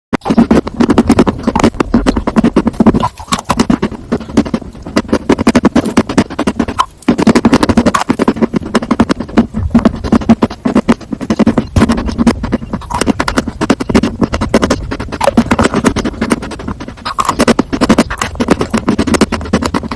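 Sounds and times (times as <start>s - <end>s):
crunching and chewing sandwich: 0.2s - 19.9s.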